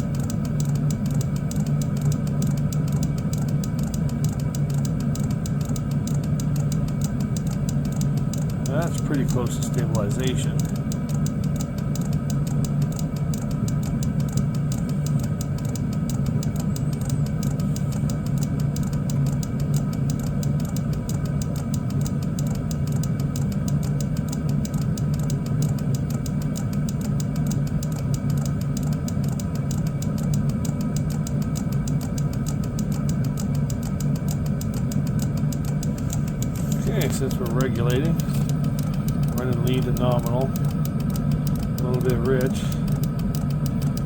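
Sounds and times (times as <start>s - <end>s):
diesel air heater fan hum: 0.0s - 44.0s
faint steady whine tones: 0.0s - 44.0s.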